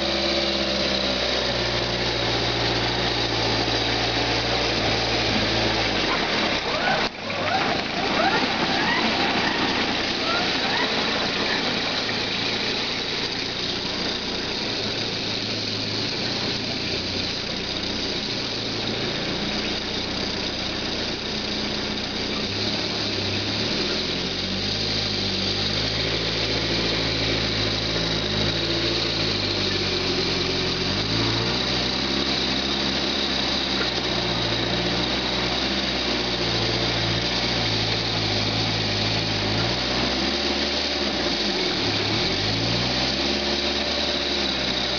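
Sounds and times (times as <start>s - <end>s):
forwarder engine running: 0.0s - 44.9s.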